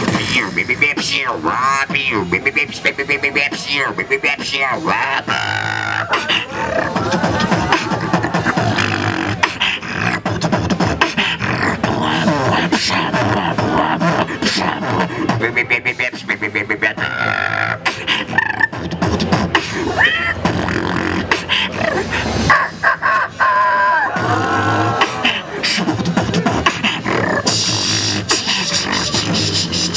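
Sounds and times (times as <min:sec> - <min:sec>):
person beatboxing: 0:00.0 - 0:29.9.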